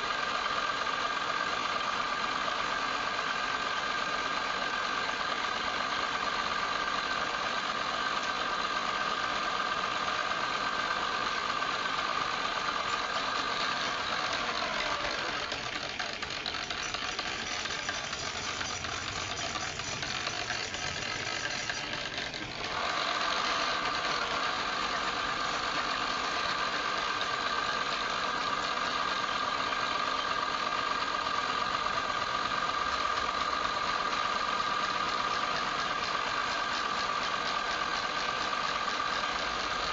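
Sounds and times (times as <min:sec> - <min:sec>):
rough lathe sound: 0:00.0 - 0:39.9
wood lathe hum and whine: 0:00.0 - 0:39.9.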